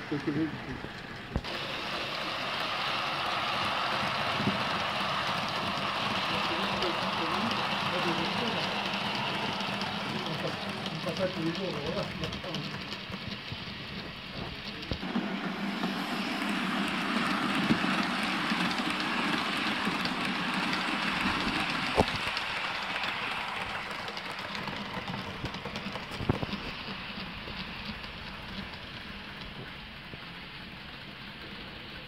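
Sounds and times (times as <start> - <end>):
model train rolling on track: 0.0 - 32.0.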